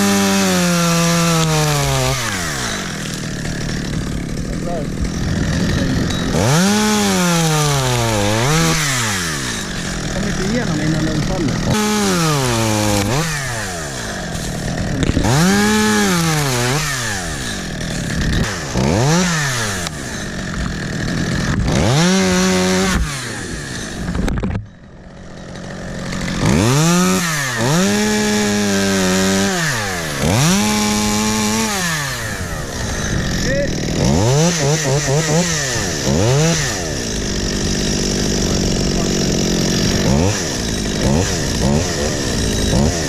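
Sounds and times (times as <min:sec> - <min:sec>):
two-stroke chainsaw revving: 0:00.0 - 0:43.0.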